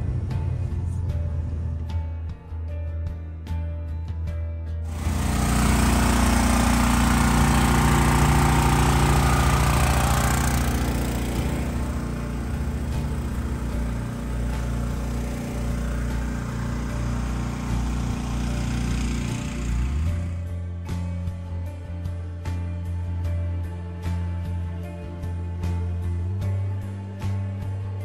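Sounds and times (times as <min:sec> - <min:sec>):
engine running: 0:04.9 - 0:27.8.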